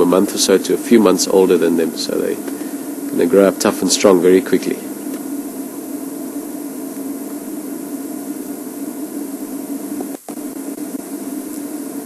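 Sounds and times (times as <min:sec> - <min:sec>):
low hum: 0:00.0 - 0:12.0
steady hiss: 0:00.0 - 0:12.0.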